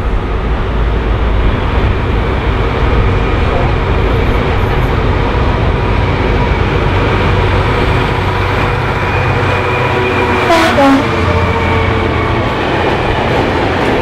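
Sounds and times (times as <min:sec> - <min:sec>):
diesel train rumbling past: 0:00.0 - 0:14.0.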